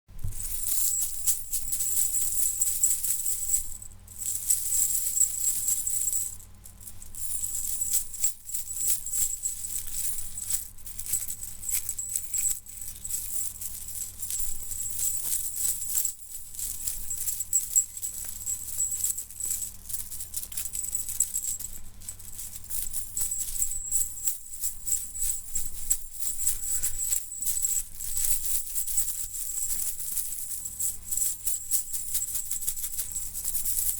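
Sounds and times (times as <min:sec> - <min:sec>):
faint low hum: 0:00.2 - 0:33.9
metal chain rattling: 0:00.2 - 0:33.9.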